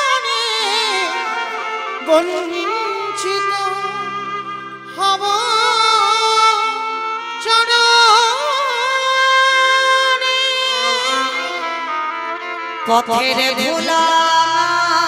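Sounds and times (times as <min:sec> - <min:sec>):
woman singing devotional song: 0:00.0 - 0:04.3, 0:04.9 - 0:11.9, 0:12.8 - 0:15.0.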